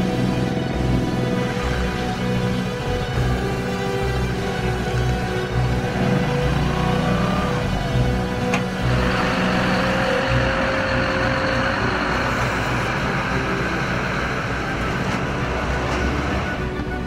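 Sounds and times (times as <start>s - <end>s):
diesel truck engine rumble: 0.0s - 17.0s
tyres rolling on asphalt: 0.0s - 17.0s.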